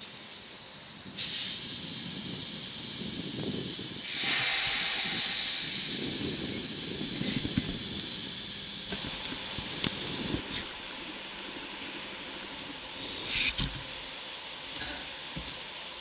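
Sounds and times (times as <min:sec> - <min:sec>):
compressed air hissing: 0:01.1 - 0:16.0.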